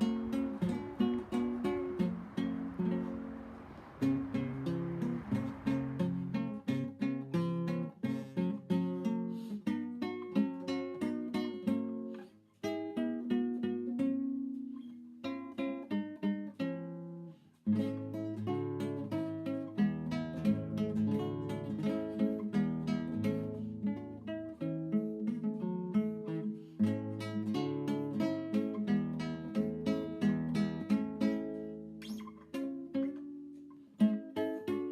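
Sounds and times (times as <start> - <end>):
acoustic guitar music: 0.0 - 34.9.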